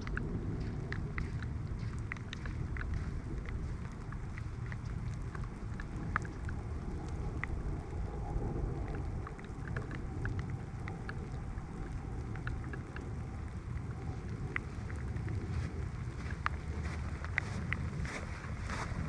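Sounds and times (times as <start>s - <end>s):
light rain falling: 0.0s - 19.0s
steady low rumble: 0.0s - 19.0s.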